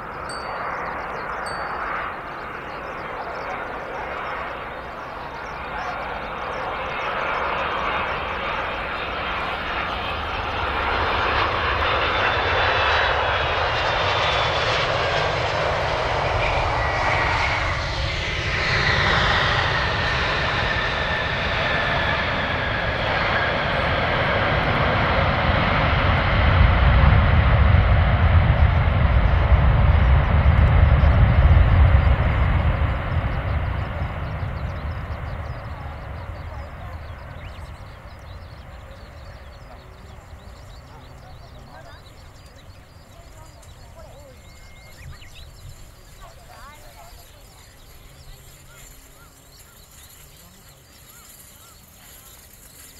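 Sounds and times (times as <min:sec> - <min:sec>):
jet engines whining: 0:00.0 - 0:52.6.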